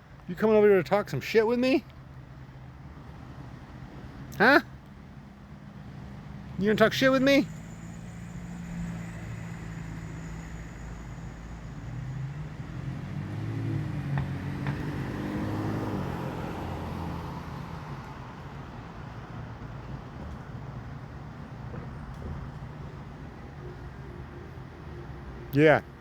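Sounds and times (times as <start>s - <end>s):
vehicle passing: 1.7s - 26.0s.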